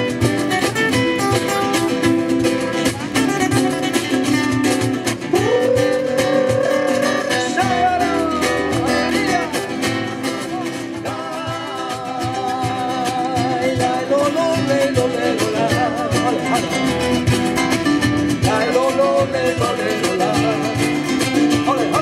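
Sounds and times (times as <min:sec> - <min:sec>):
acoustic guitars strumming: 0:00.0 - 0:22.0
hand drum rhythm: 0:00.0 - 0:22.0.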